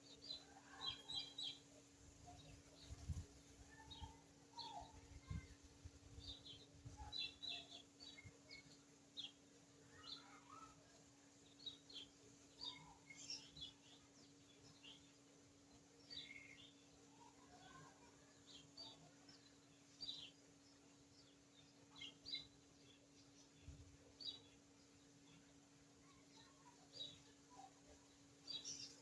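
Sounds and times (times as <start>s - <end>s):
faint bird chirps: 0.0s - 15.2s, 16.0s - 29.0s.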